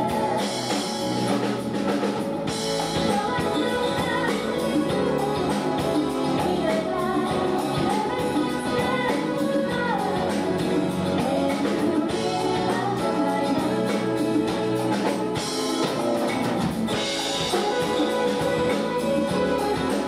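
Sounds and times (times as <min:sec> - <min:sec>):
live pop band playing: 0:00.0 - 0:20.0.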